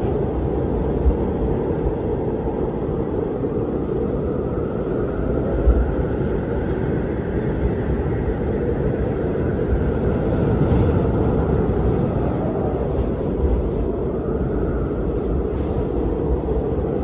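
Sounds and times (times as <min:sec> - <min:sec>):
high wind whistle: 0:00.0 - 0:17.0
wind rushing: 0:00.0 - 0:17.0.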